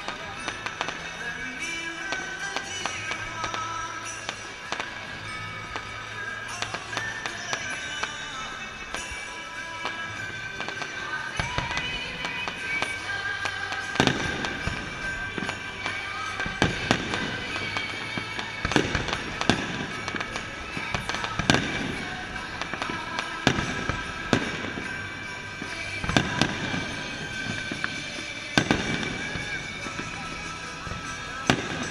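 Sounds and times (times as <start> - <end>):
fireworks bursting with bangs: 0.0 - 31.9
music: 0.0 - 31.9.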